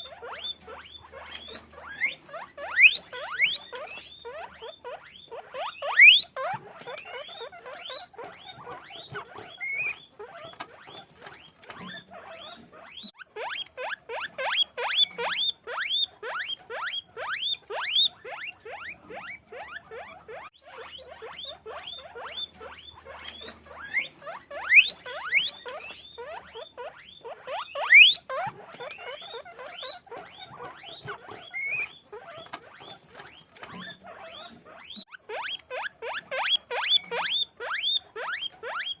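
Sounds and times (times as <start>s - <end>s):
guinea pigs squeaking: 0.0s - 39.0s.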